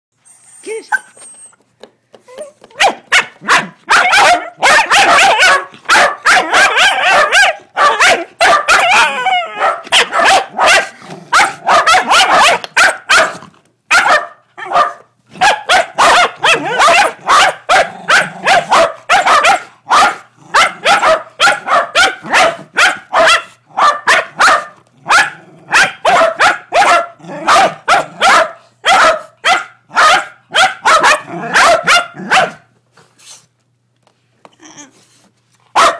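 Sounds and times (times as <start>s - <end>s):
dogs barking: 2.8s - 32.7s.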